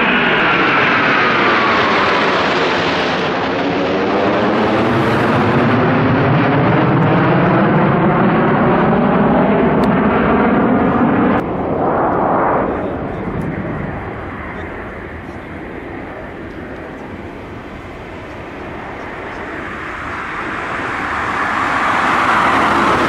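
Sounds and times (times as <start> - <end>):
jet flying past: 0.0 - 23.0.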